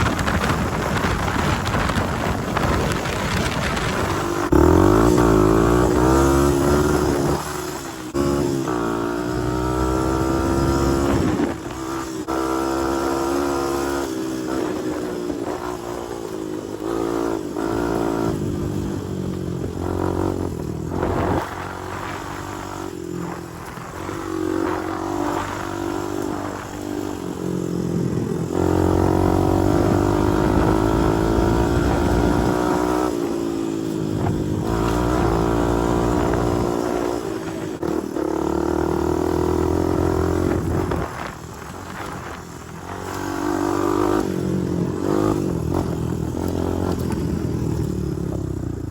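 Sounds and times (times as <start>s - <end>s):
quad bike engine revving: 0.0s - 48.9s.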